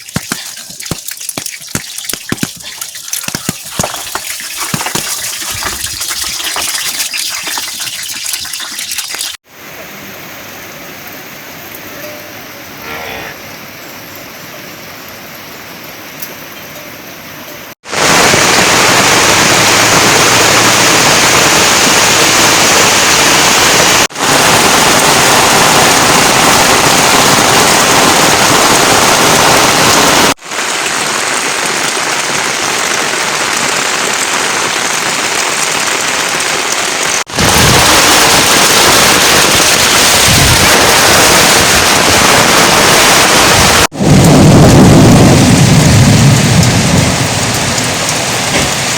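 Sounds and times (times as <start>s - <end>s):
heavy rain pouring: 0.0s - 12.1s, 17.8s - 48.9s.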